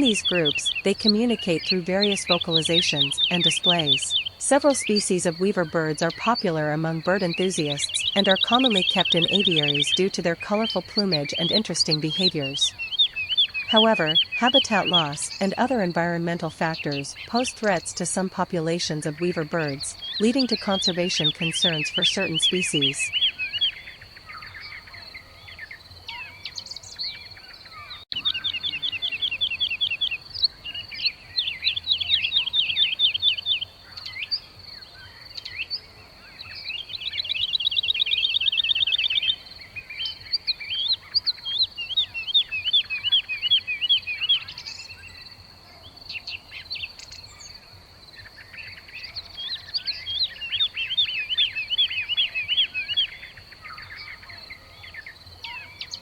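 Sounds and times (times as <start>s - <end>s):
weaver birds chattering: 0.0s - 34.4s, 35.0s - 56.0s.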